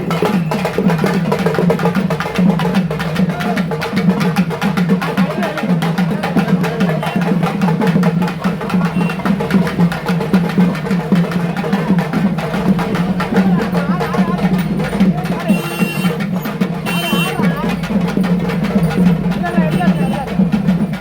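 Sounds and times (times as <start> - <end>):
loud fast drumming: 0.0 - 21.0
voices: 0.0 - 21.0.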